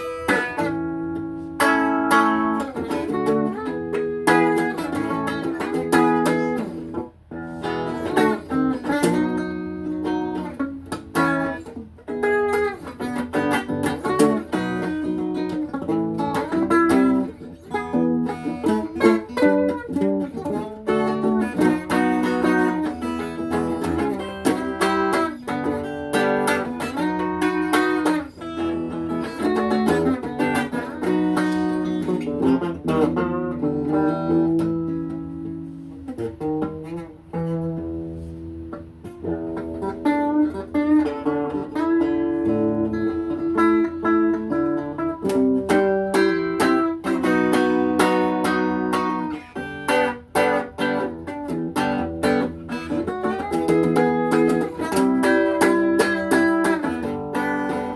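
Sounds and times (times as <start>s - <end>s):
plucked guitar notes: 0.0s - 57.9s.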